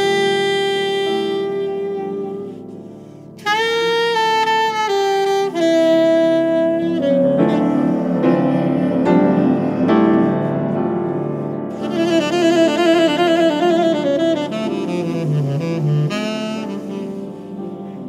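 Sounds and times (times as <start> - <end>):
piano chords: 0.0 - 18.0
saxophone melody: 0.0 - 18.0.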